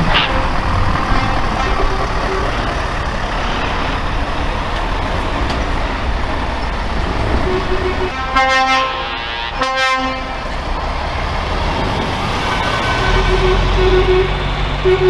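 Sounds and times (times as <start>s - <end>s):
diesel trucks driving past: 0.0s - 15.0s
road noise: 0.0s - 15.0s.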